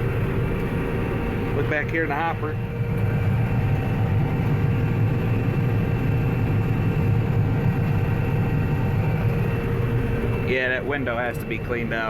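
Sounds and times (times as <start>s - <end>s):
combine harvester machinery drone: 0.0s - 12.0s
steady humming tones: 0.0s - 12.0s.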